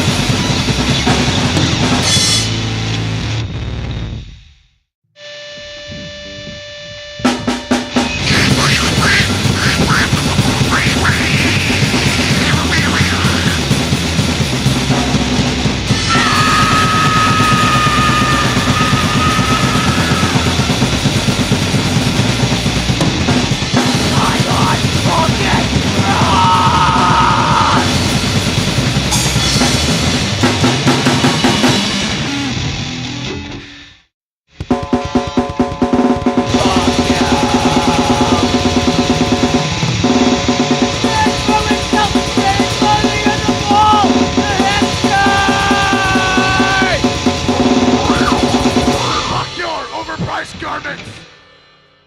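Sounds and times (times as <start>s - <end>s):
distorted grindcore noise music: 0.0s - 4.3s, 5.9s - 33.6s, 34.6s - 51.4s
drums: 0.0s - 4.8s, 5.6s - 52.0s.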